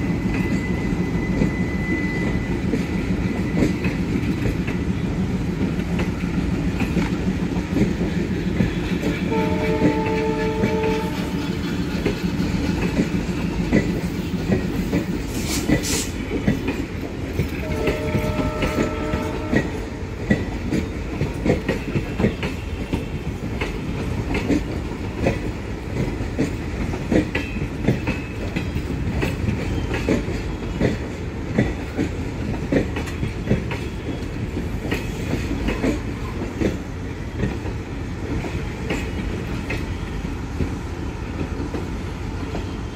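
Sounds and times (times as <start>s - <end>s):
train coaches rumbling: 0.0s - 42.9s
wheels clacking over rail joints: 2.5s - 42.8s.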